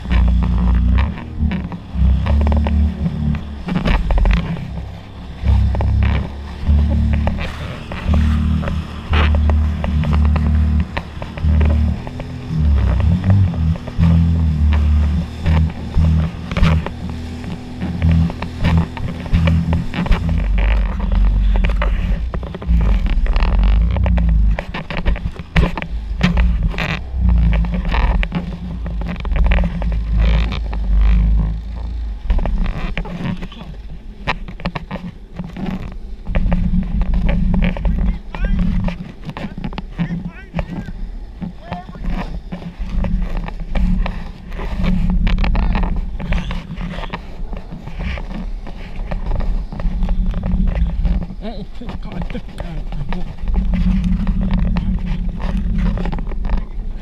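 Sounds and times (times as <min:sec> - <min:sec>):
jet ski engine rumble: 0:00.0 - 0:57.0
water slapping hull: 0:00.0 - 0:57.0
wind buffeting microphone: 0:00.0 - 0:57.0.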